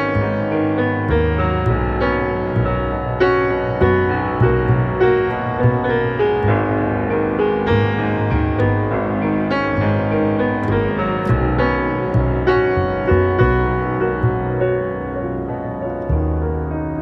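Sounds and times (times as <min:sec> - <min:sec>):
low bass part: 0:00.0 - 0:17.0
piano chords: 0:00.0 - 0:17.0.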